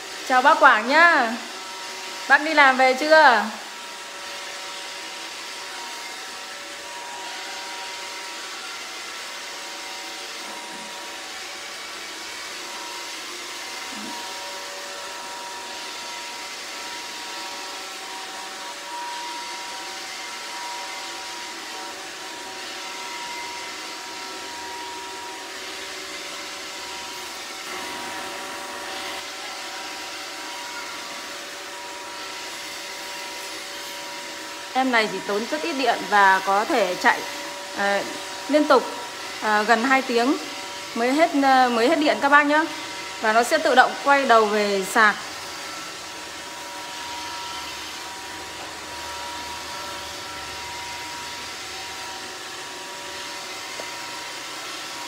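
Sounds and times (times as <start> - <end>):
robot vacuum whirring: 0.0 - 55.0.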